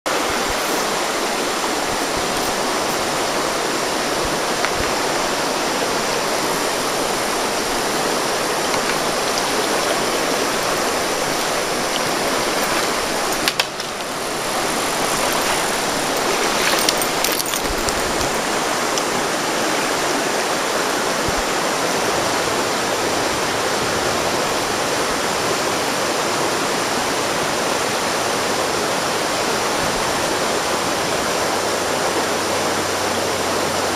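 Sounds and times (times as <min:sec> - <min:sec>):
river water rushing over rocks: 0:00.1 - 0:33.9.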